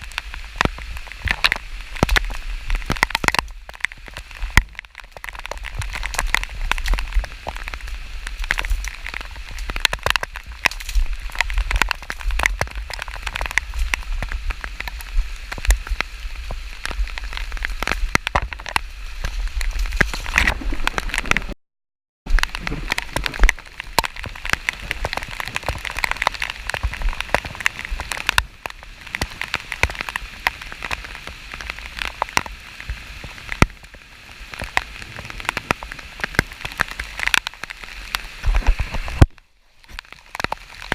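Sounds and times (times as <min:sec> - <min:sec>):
rain pattering: 0:00.0 - 0:21.6, 0:22.3 - 0:40.9.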